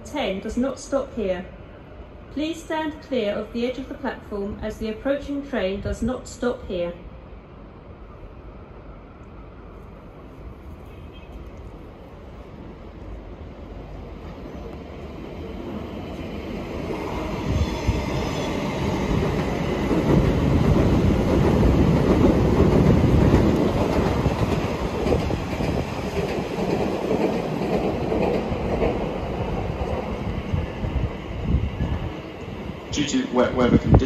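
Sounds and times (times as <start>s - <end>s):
train passing rumble: 0.0s - 34.0s.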